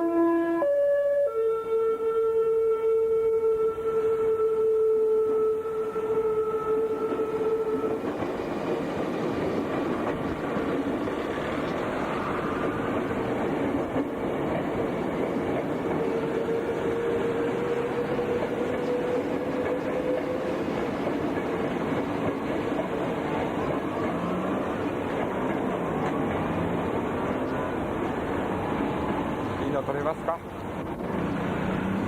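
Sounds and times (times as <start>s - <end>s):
train wheels rumbling: 3.5s - 32.0s
clickety-clack over rail joints: 5.9s - 32.0s.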